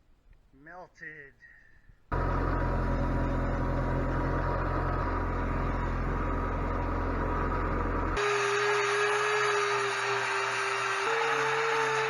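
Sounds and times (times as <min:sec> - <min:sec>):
machine running: 0:02.1 - 0:12.0.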